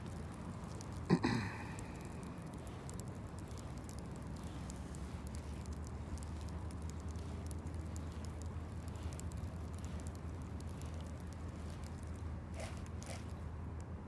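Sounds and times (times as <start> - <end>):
fishing reel cranking: 0.0 - 13.5
faint ticking: 0.0 - 13.9
steady low hum: 0.0 - 14.0.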